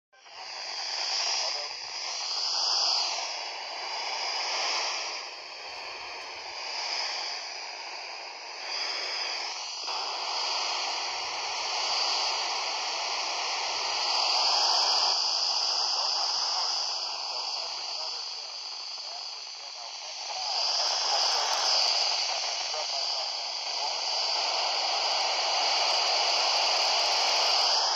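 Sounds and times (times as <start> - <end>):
radio receiver hiss: 0.2 - 27.9.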